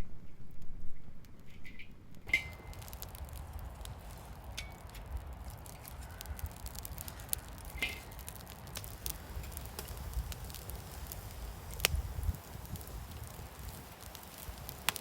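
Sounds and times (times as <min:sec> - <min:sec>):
campfire crackling: 0:00.5 - 0:15.0
sharp pops and snaps: 0:01.2 - 0:15.0.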